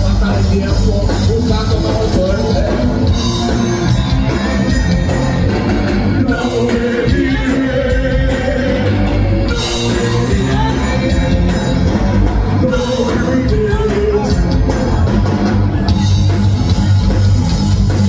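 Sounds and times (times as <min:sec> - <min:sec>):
punk rock band playing live: 0:00.0 - 0:18.0.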